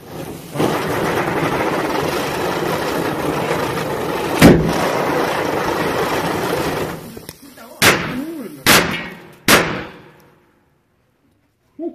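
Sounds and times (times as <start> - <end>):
firework bang: 0.0 - 10.5
fireworks hissing and crackling: 0.0 - 10.5.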